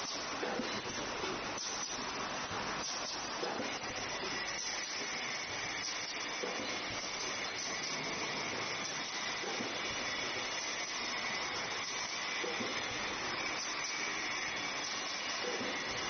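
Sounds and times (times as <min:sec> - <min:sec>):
thermoforming machine hissing: 0:00.0 - 0:16.0.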